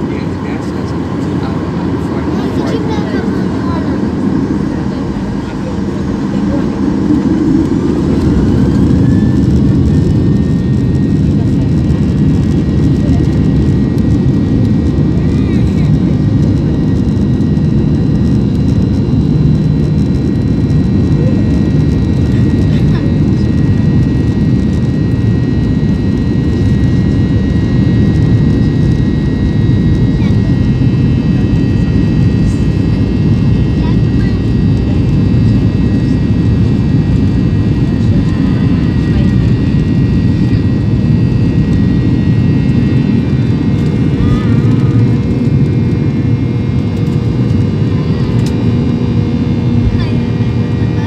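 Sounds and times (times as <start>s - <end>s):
high fan whine: 0.0s - 51.0s
jet engine rumble in cabin: 0.0s - 51.0s.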